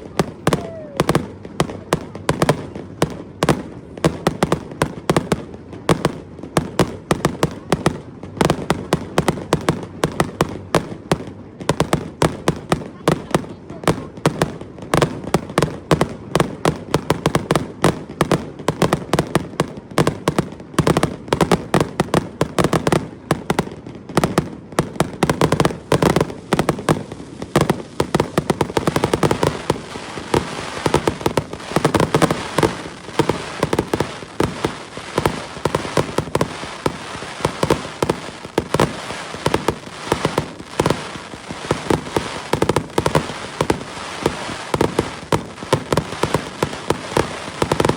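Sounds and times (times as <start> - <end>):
crackling hiss of fireworks: 0.0 - 47.9
fireworks bangs and cracks: 0.0 - 47.9.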